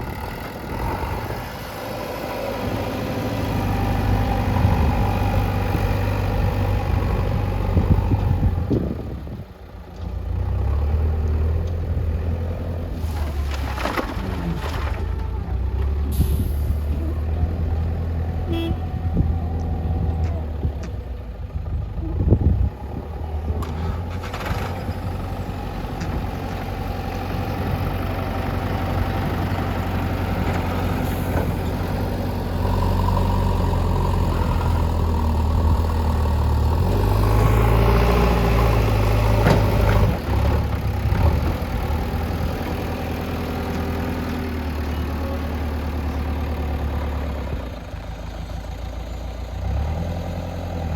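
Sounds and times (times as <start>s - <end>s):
diesel engine under load: 0.0s - 50.9s.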